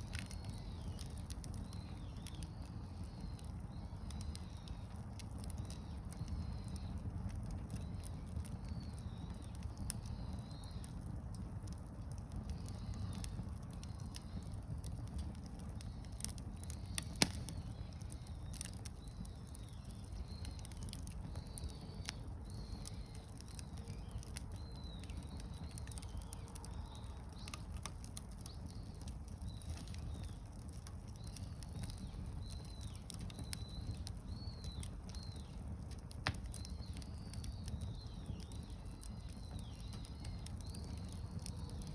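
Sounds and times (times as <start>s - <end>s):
campfire crackling and popping: 0.0s - 41.9s
small birds chirping: 0.0s - 41.9s.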